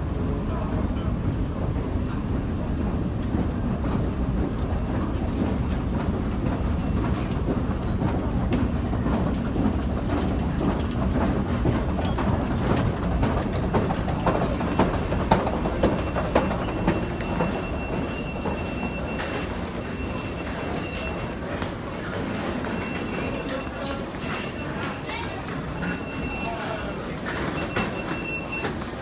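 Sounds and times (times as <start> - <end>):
escalator clicking and rattling: 3.2 - 29.0.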